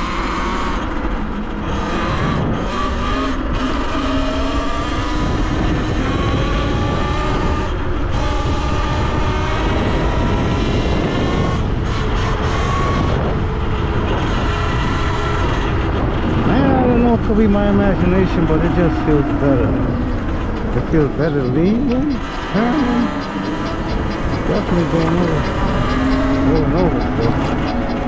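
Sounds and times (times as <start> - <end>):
wind and tyre noise: 0.0 - 28.0.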